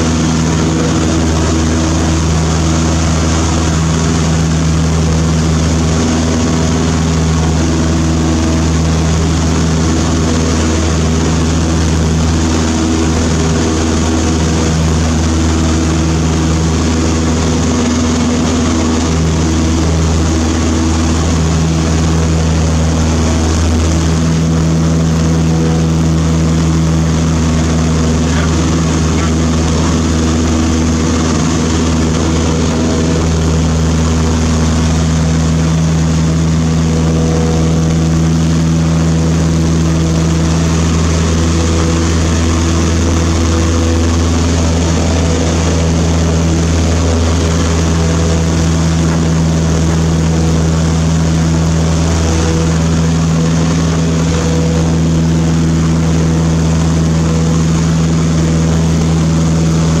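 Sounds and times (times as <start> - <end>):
airplane engine droning in cabin: 0.0 - 60.0.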